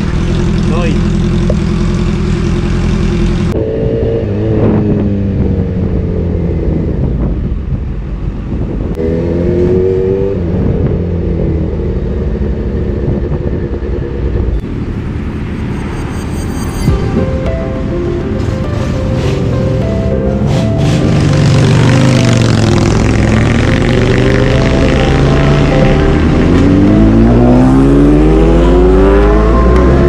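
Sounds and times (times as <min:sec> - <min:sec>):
motorcycle engine idling and revving: 0:00.0 - 0:17.2, 0:17.8 - 0:30.0.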